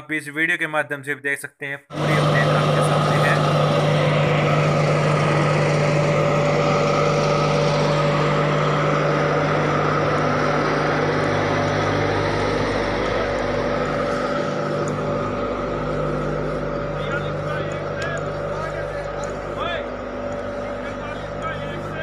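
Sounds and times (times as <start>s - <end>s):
locomotive diesel engine idling: 1.9s - 22.0s.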